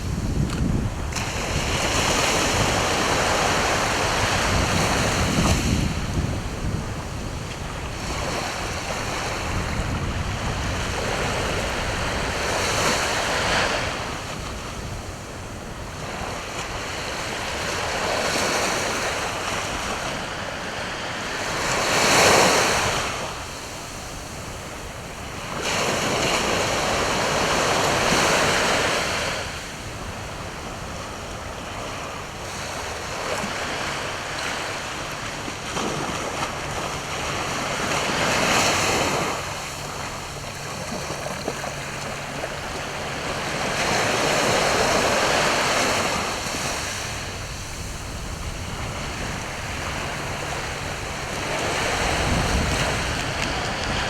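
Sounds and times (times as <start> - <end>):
sea waves breaking on shore: 0.0 - 54.0
wind rumbling on microphone: 0.0 - 54.0.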